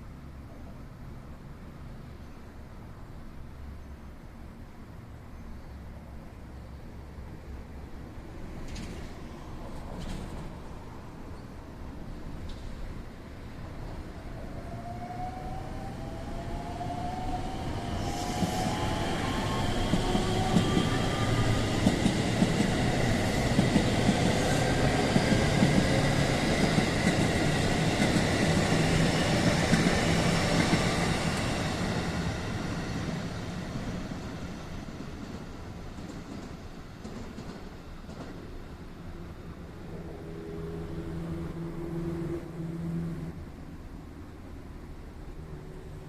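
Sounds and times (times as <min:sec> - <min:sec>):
electric train passing: 0:07.5 - 0:46.0.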